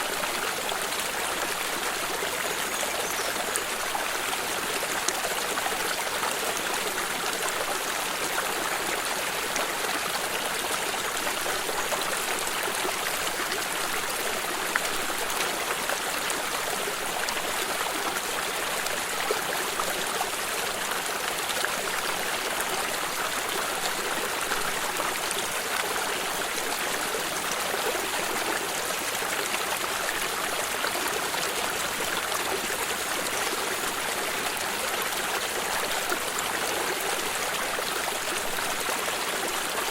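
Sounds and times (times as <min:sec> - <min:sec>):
water stream flowing: 0:00.0 - 0:39.9.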